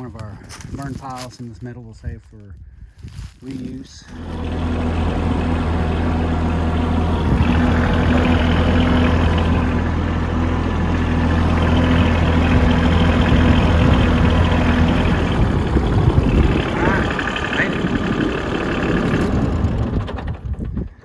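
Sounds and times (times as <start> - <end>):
farm vehicle engine humming: 3.9 - 21.0.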